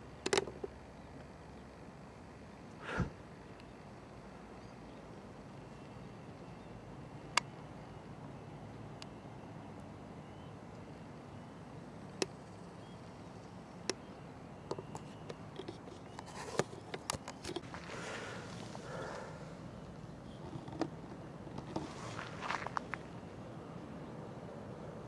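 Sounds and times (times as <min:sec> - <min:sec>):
low background hiss: 0:00.0 - 0:25.0.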